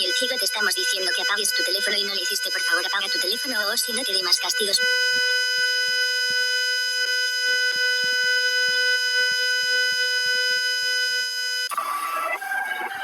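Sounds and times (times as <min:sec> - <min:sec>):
continuous electronic beep: 0:00.0 - 0:13.0
electronic sound with shifting pitches: 0:00.0 - 0:13.0.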